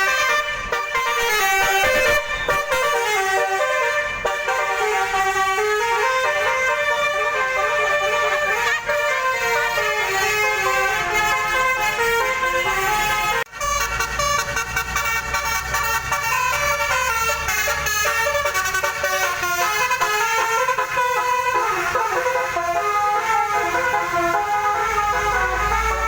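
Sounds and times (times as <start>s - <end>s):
multi-tone bus horn melody: 0.0s - 26.0s.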